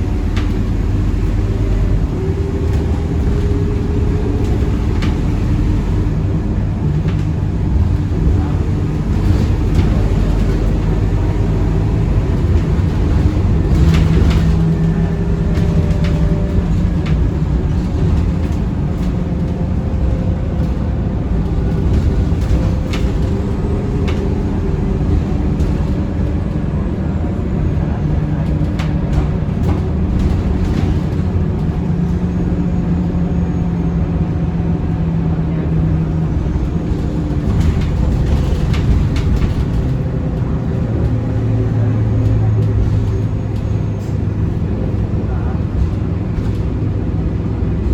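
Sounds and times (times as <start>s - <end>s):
bus engine rumbling: 0.0s - 47.9s.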